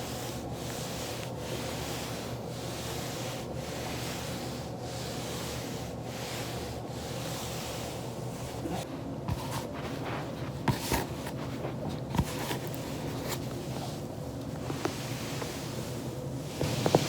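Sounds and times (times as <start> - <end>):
foam roller rubbing: 0.0 - 14.0, 14.8 - 17.0.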